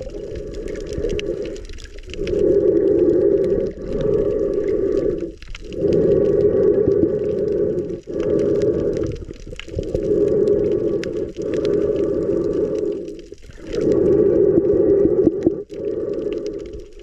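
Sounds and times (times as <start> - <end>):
muffled underwater rushing water: 0.0 - 17.0.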